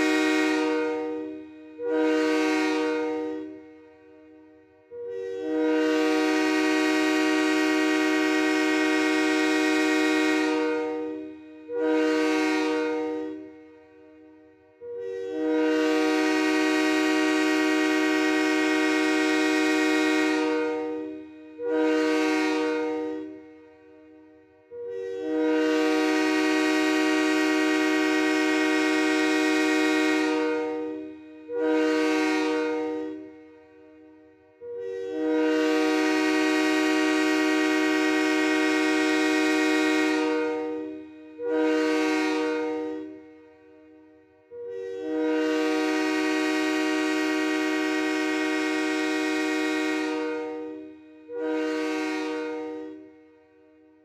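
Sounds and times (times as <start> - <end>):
train horn blasts: 0.0 - 54.0.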